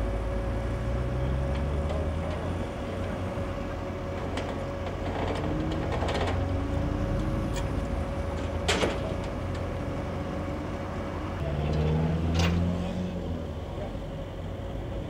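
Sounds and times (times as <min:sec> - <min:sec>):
heavy engine running: 0:00.0 - 0:15.0
motorway traffic: 0:00.0 - 0:15.0.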